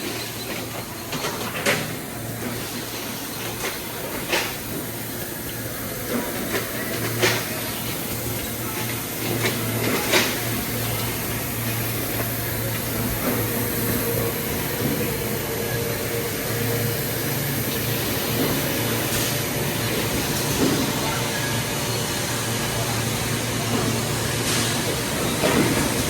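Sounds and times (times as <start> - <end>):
welding machine hum and hiss: 0.0 - 26.0.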